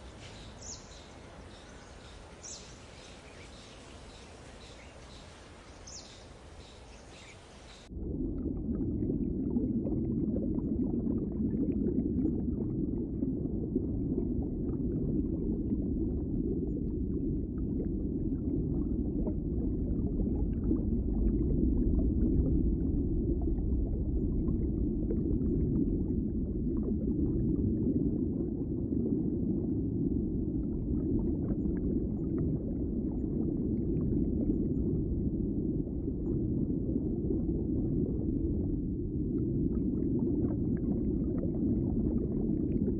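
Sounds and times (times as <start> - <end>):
underwater rumbling wash of water: 0.0 - 42.9.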